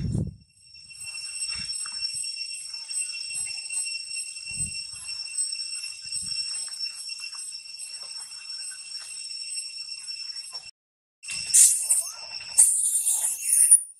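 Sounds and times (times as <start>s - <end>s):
high-pitched insect drone: 0.0s - 13.9s.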